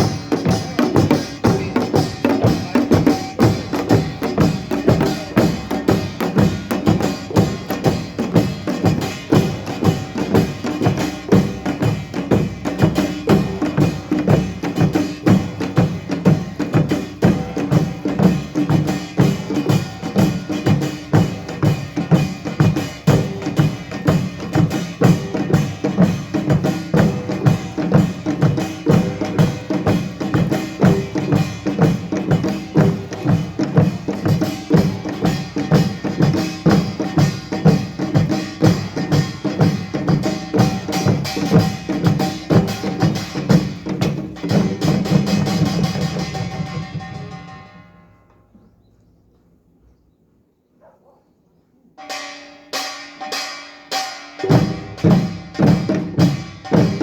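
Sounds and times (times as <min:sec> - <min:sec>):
gongs and drums playing: 0:00.0 - 0:48.2, 0:52.0 - 0:57.0.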